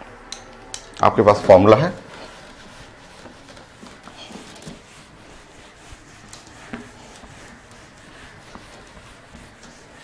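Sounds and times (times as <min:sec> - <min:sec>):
cloth rubbing on whiteboard: 0:01.3 - 0:10.0.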